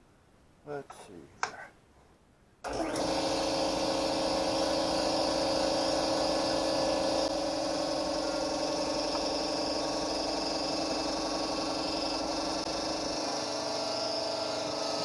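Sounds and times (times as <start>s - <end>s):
pump motor humming: 2.7s - 15.0s.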